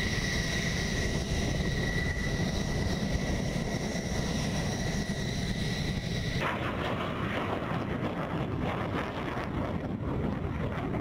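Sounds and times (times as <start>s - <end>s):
jet engine rumble and whine: 0.0s - 11.0s.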